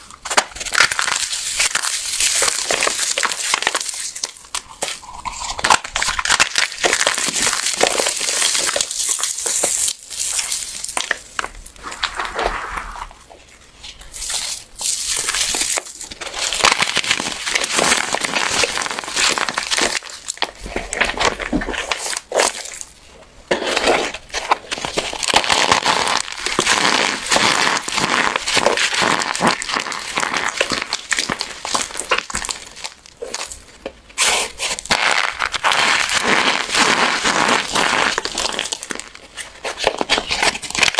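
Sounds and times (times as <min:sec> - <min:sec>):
dried soap crunching: 0:00.0 - 0:40.9.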